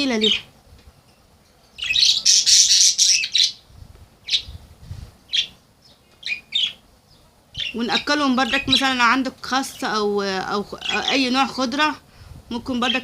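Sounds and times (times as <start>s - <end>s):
birds squawking chatter: 0.0s - 0.5s, 1.6s - 4.6s, 5.2s - 12.0s, 12.7s - 13.0s.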